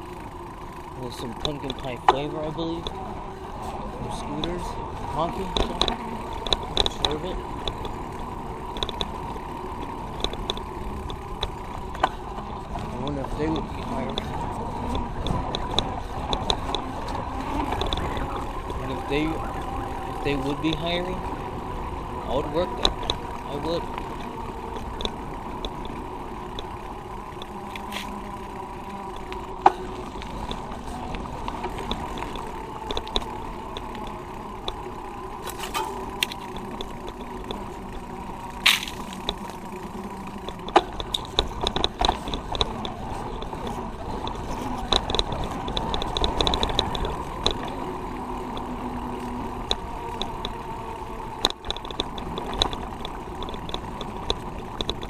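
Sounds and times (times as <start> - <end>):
bike clicks and rattles: 0.0 - 55.0
road and wind noise: 0.0 - 55.0
vehicle engines: 0.0 - 55.0.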